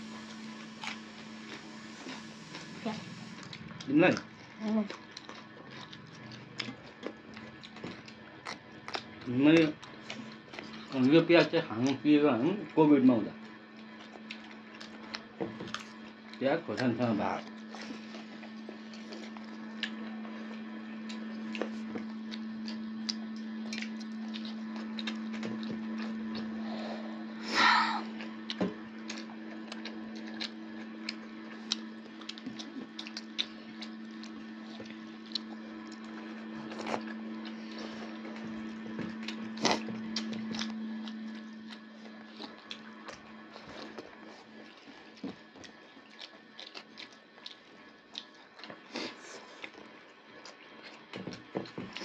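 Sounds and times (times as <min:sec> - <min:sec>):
low hum: 0:00.0 - 0:47.0
wet chewing smacks: 0:00.6 - 0:12.0, 0:13.6 - 0:26.5, 0:28.2 - 0:52.0.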